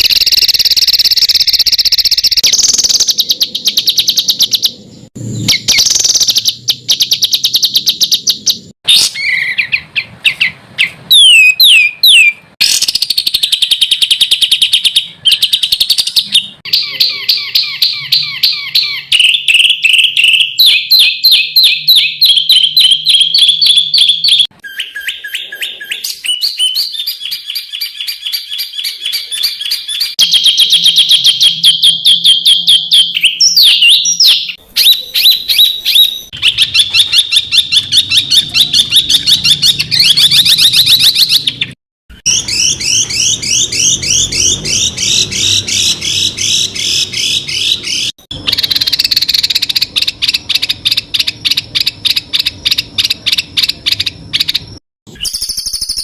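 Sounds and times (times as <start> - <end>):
songbirds chattering and trilling: 0.0 - 56.0.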